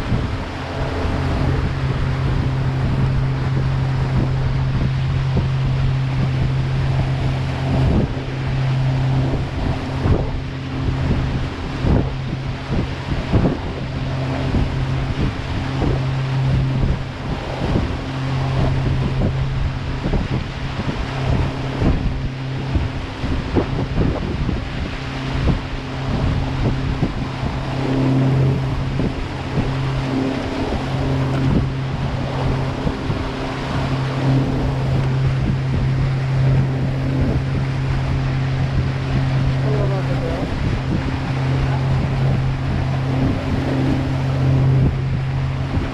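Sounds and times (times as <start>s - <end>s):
boat engine humming: 0.0s - 45.9s
water rushing past hull: 0.0s - 45.9s
wind on microphone: 0.0s - 45.9s.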